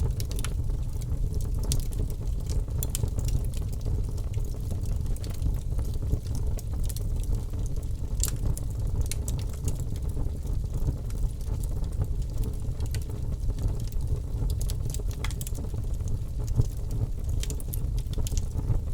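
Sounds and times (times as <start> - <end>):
low rumble of flames: 0.0 - 18.9
wood fire crackling and popping: 0.0 - 18.9.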